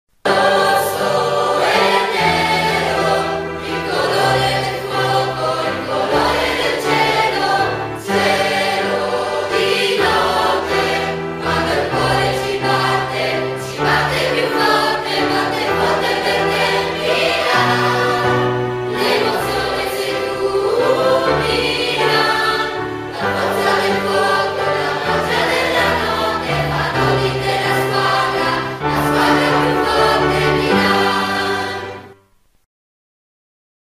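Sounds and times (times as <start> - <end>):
mixed choir singing a chant: 0.2 - 32.2.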